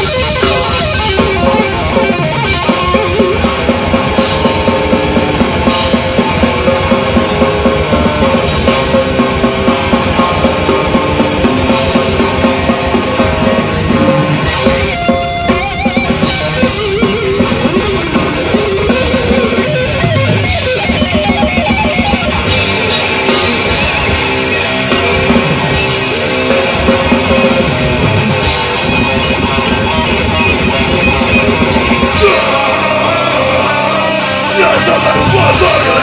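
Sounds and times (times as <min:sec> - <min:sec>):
heavy metal band playing: 0:00.0 - 0:36.0
wavering lead guitar: 0:00.0 - 0:36.0.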